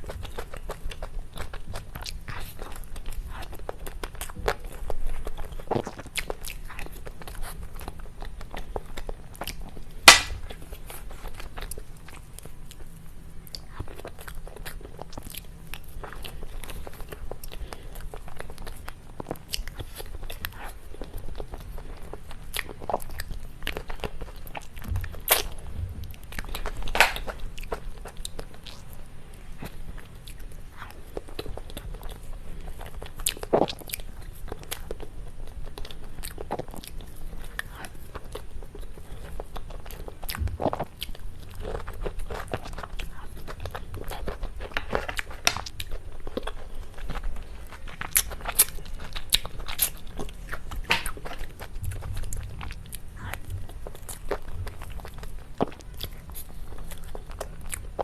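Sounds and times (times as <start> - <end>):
chewing and biting cake: 0.0 - 58.0.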